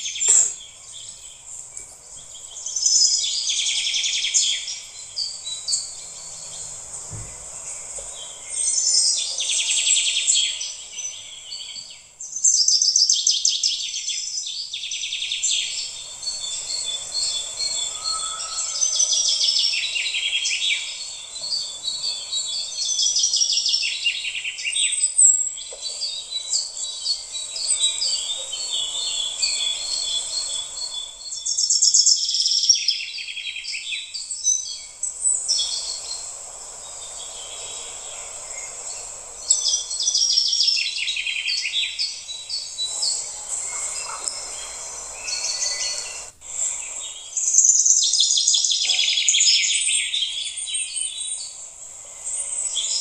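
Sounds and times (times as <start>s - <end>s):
small birds chirping and twittering: 0.0s - 53.0s.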